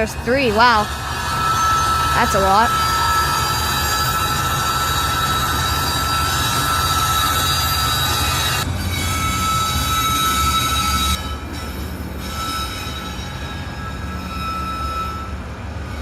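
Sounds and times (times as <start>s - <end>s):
train cars rolling: 0.0s - 16.0s
wheels squealing on rails: 0.0s - 16.0s.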